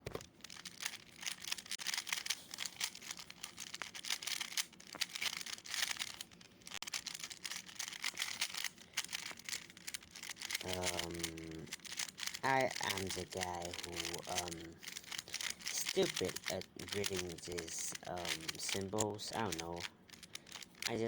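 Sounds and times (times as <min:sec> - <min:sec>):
speed cube plastic clicks: 0:00.0 - 0:21.0.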